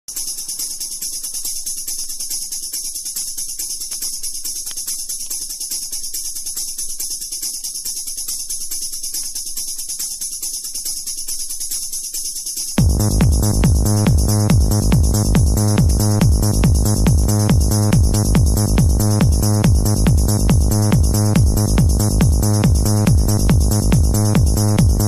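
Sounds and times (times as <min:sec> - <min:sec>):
rapid jingling percussion music: 0:00.1 - 0:25.0.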